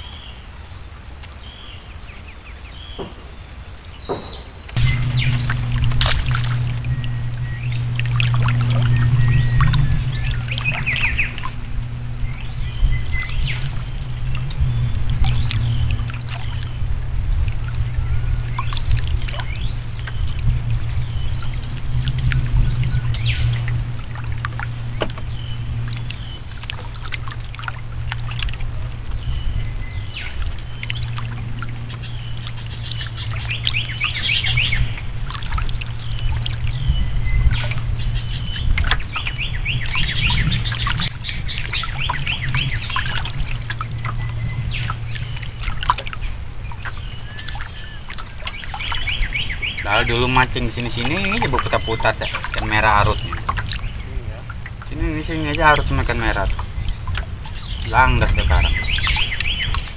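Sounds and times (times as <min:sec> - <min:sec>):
birds chirping and calling: 0:00.0 - 0:59.9
steady low hum: 0:00.0 - 0:59.9.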